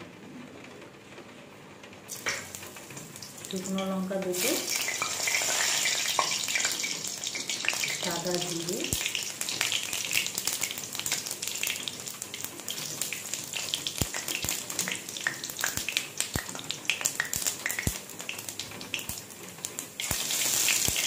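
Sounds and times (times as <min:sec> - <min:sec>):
oil popping and crackling: 0:02.1 - 0:21.0
spices sizzling in hot oil: 0:02.1 - 0:21.0.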